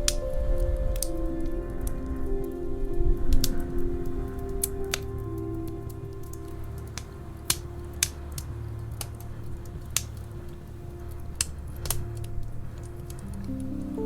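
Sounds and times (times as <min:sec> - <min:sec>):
soft sustained music: 0:00.0 - 0:14.0
wood fire crackling: 0:00.0 - 0:14.0.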